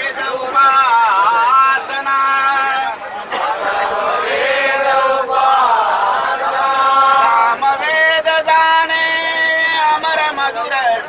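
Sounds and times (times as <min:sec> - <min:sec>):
group singing in chorus: 0:00.0 - 0:11.0.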